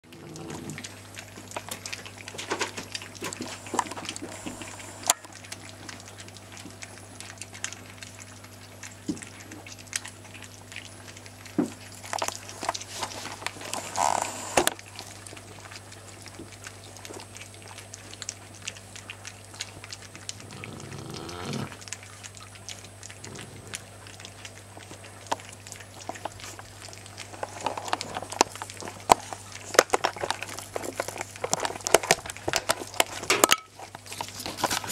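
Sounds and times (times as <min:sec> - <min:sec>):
puppies chewing at food bowl: 0:00.0 - 0:34.9
steady low hum: 0:00.0 - 0:34.9.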